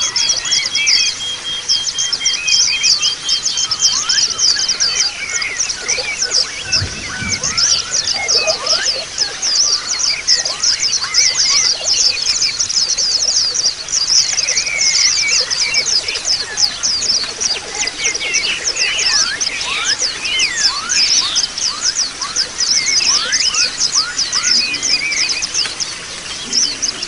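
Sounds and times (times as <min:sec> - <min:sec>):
birds twittering: 0:00.0 - 0:27.0.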